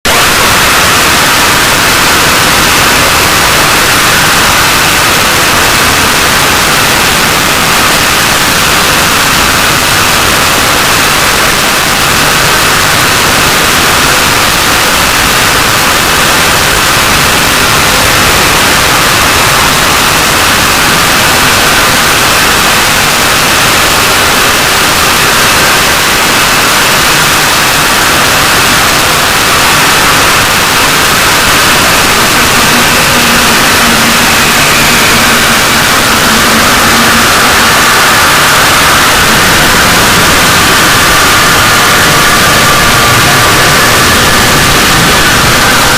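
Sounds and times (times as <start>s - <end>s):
harsh static noise: 0.0s - 45.9s.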